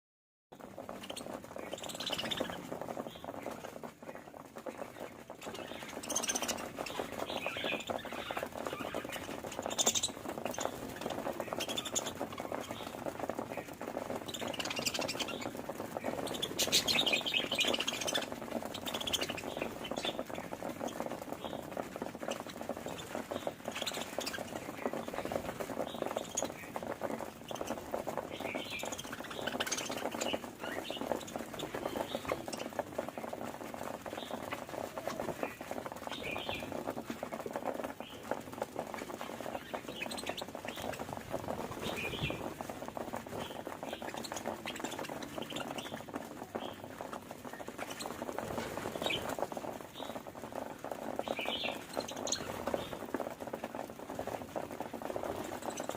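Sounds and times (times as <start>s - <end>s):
budgies chattering: 0.6s - 50.3s, 51.2s - 53.1s, 55.1s - 55.9s.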